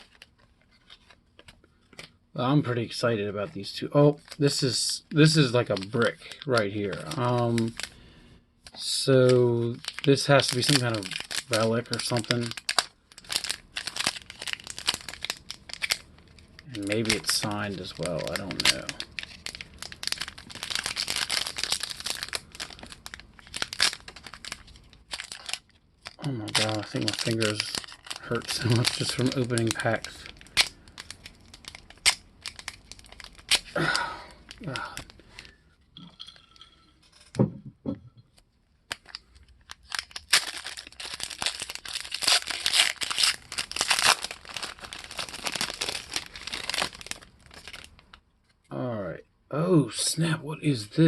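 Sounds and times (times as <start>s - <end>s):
plastic wrapper tearing and crinkling: 0.0s - 2.2s, 3.1s - 8.0s, 8.6s - 35.6s, 38.8s - 48.2s.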